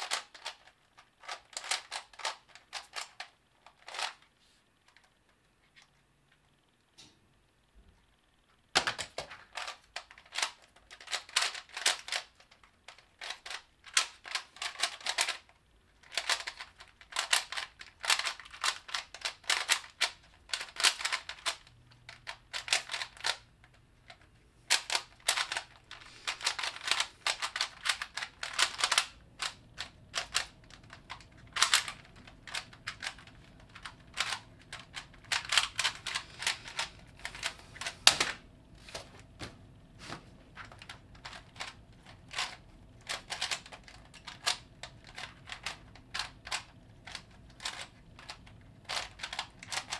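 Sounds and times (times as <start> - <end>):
puzzle cube plastic clicking: 0.0 - 5.9, 8.7 - 38.5, 40.5 - 49.9.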